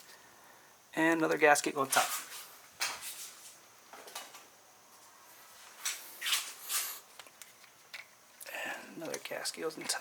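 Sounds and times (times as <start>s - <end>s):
parts scraping and rustling: 1.2s - 10.0s.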